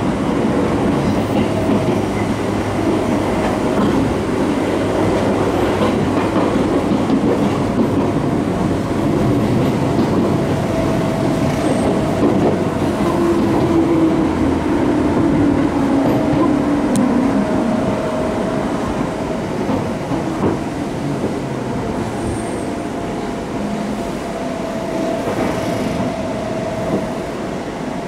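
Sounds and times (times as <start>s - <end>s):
train motor and gear hum: 0.0s - 28.0s
train wheels rumbling on rails: 0.0s - 28.0s.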